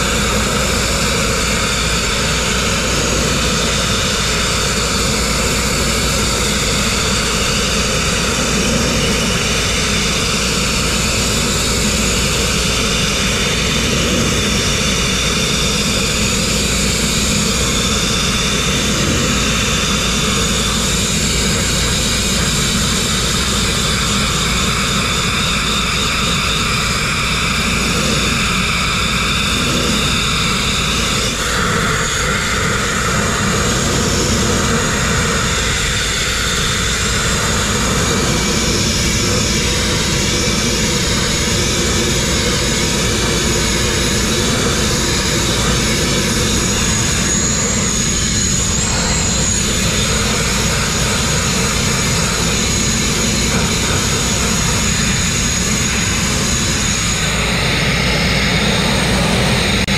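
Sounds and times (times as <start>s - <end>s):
grit blasting hiss: 0.0s - 59.9s.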